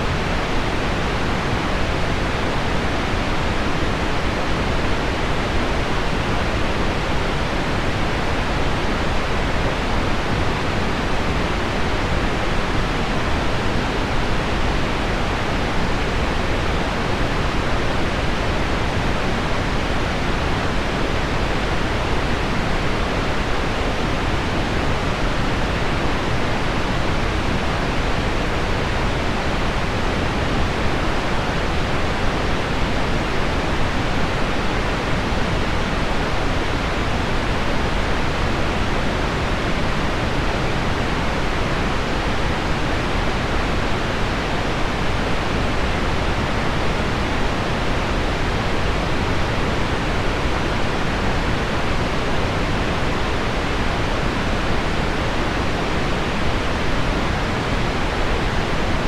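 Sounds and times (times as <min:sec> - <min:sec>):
low pink noise: 0:00.0 - 0:59.0.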